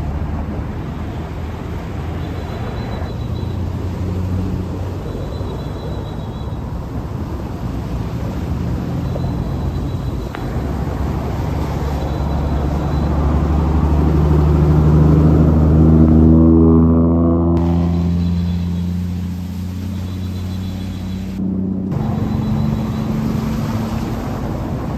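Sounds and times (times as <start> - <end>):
vehicle engine passing by: 0.0 - 6.0, 6.6 - 24.9.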